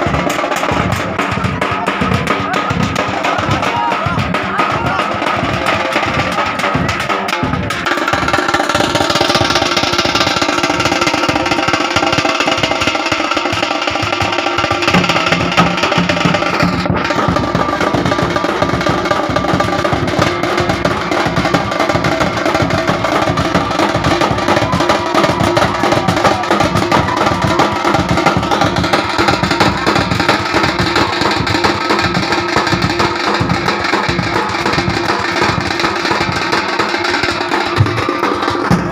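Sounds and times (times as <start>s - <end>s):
fast dense drumming: 0.0s - 38.9s.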